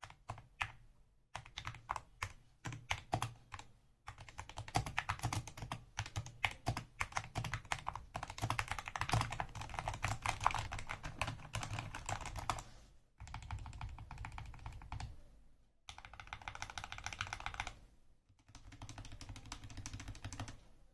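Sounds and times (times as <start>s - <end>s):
mechanical keyboard typing: 1.4s - 12.6s, 13.2s - 15.1s, 15.9s - 17.8s, 18.4s - 20.6s.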